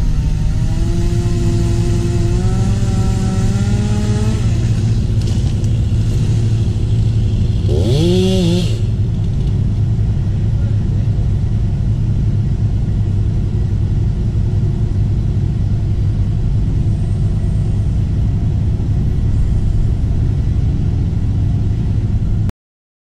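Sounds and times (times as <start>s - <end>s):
engine rumbling: 0.0s - 22.5s.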